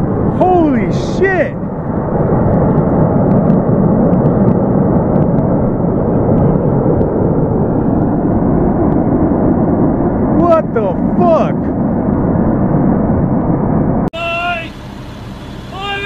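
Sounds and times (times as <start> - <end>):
steady rumbling roar: 0.0 - 16.0.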